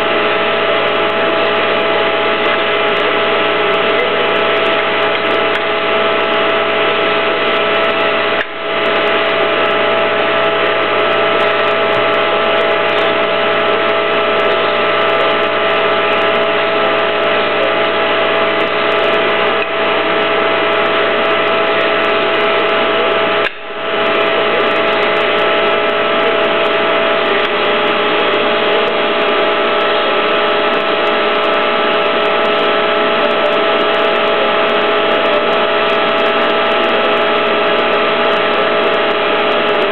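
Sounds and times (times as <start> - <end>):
hydraulic pump motor whining: 0.0 - 39.9.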